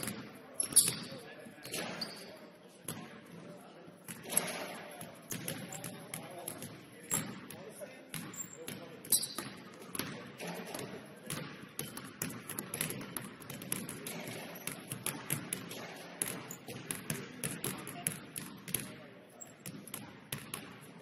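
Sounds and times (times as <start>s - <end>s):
basketballs bouncing on wooden floor: 0.0s - 1.1s, 2.9s - 3.1s, 4.1s - 21.0s.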